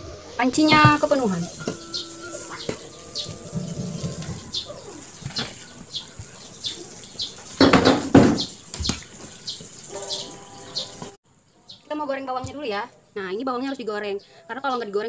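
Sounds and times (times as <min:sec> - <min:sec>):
small bird chirping: 0:00.3 - 0:14.9.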